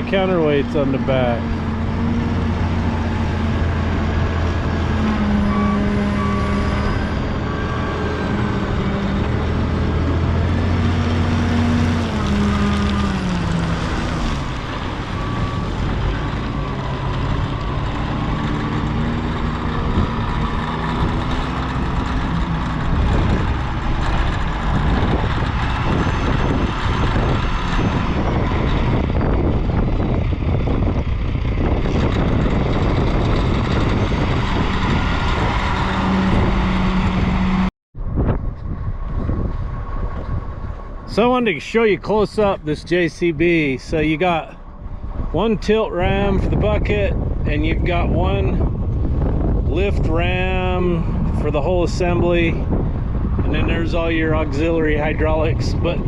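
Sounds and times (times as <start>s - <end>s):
heavy equipment engine under load: 0.0s - 56.0s.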